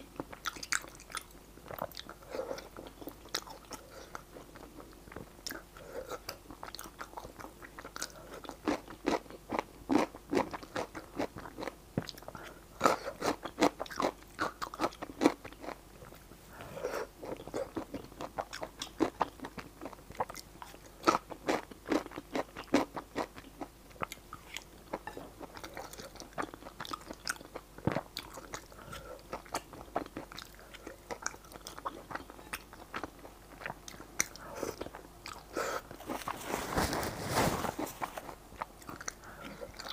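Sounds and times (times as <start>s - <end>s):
chewing crunchy noodles: 0.0s - 39.9s.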